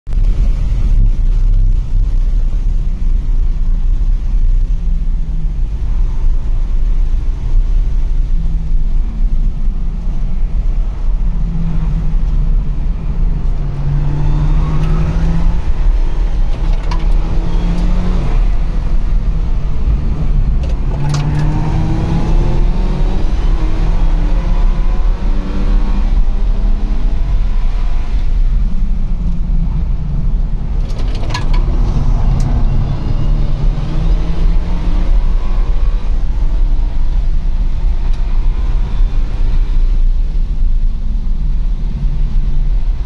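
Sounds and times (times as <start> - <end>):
road rumble: 0.1 - 43.0
car engine accelerating: 0.2 - 43.0.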